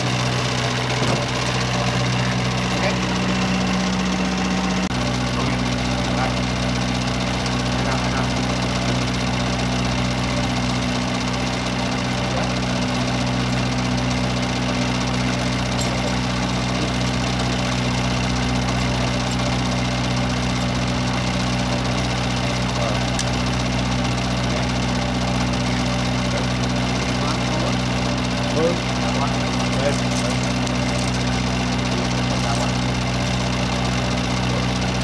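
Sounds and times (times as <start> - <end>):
steady engine-like drone: 0.0 - 35.0.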